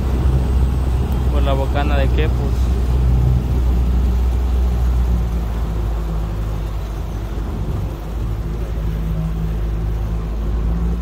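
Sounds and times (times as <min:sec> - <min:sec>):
outboard motor running: 0:00.0 - 0:11.0
wind and water rushing: 0:00.0 - 0:11.0.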